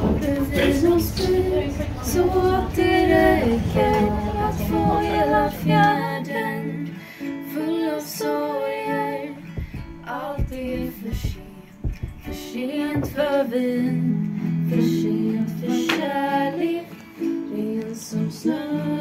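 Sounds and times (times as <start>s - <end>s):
guitar: 0.0s - 19.0s
woman singing: 0.0s - 19.0s.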